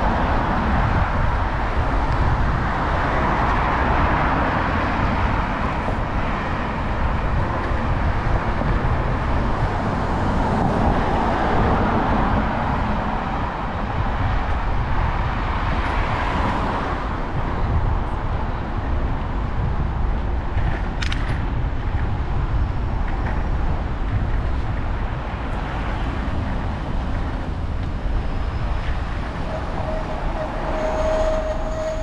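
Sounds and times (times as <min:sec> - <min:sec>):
cars passing: 0:00.0 - 0:32.0
traffic rumble: 0:00.0 - 0:32.0.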